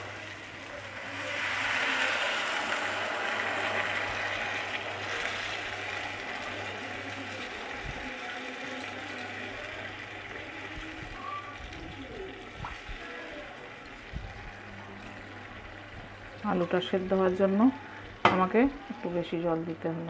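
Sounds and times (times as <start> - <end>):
water sizzling in hot pan: 0.0 - 19.5.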